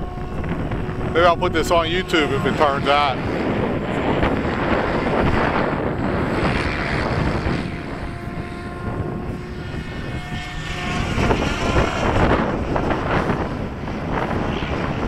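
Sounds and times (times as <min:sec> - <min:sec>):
remote-control helicopter whine: 0:00.0 - 0:15.0.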